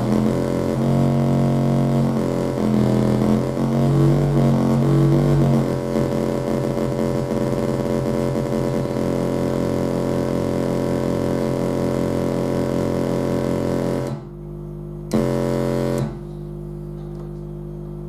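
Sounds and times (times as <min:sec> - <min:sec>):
electronic buzzing drone: 0:00.0 - 0:16.9.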